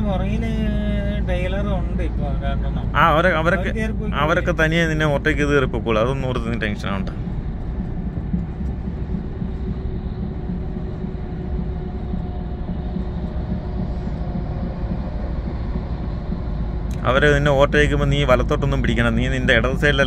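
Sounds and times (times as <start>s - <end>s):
faint steady hum: 0.0s - 20.0s
road noise: 0.0s - 20.0s
truck engine drone: 0.0s - 20.0s.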